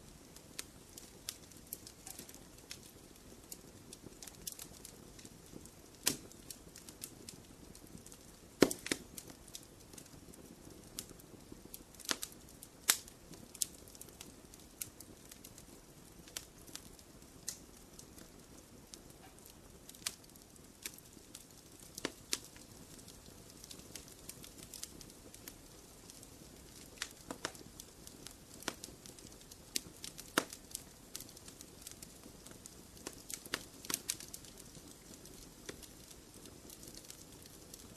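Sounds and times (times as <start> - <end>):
low steady fire hiss: 0.0 - 37.9
wood fire crackling: 0.0 - 37.9.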